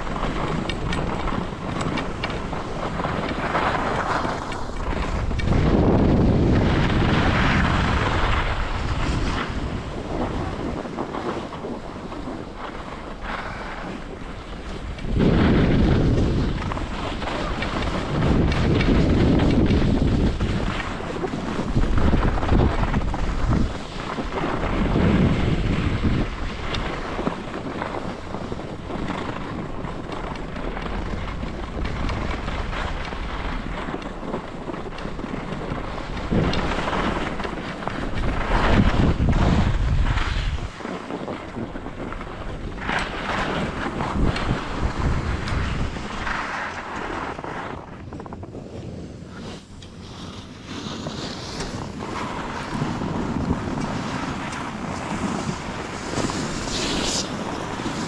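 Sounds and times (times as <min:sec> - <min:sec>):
skis scraping over packed snow: 0:00.0 - 0:58.0
wind buffeting microphone: 0:00.0 - 0:58.0.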